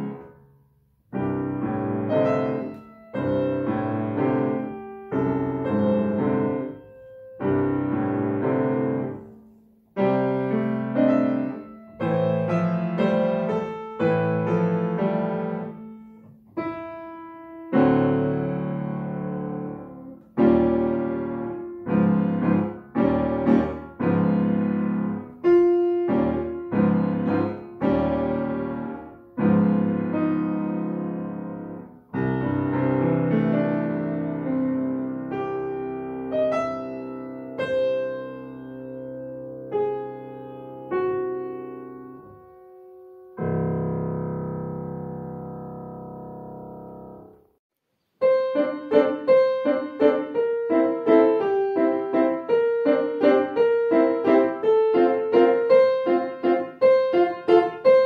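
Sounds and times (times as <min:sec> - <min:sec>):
grand piano chords and phrases: 0:00.0 - 0:58.0.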